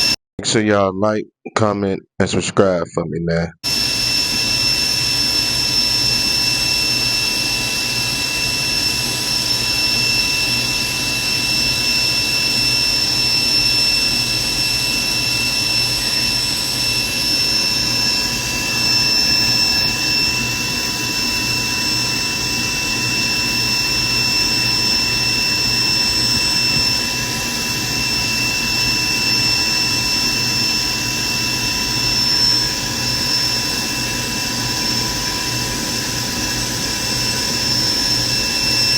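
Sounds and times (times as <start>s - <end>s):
jet engines whining: 3.6s - 38.9s.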